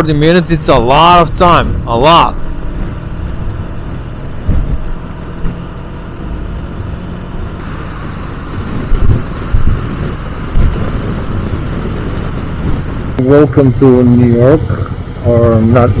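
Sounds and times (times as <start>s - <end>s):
wind and road noise: 0.0s - 16.0s
wind buffeting thumps: 1.3s - 6.8s, 7.5s - 16.0s.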